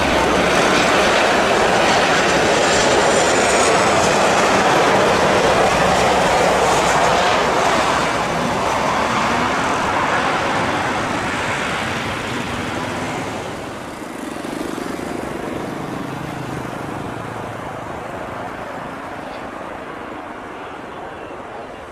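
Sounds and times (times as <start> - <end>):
jet engine roar of landing plane: 0.0 - 21.9.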